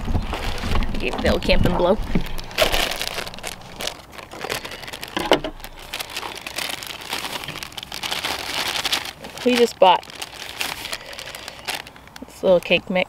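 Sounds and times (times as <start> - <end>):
plastic bag crinkling: 0.0 - 12.9.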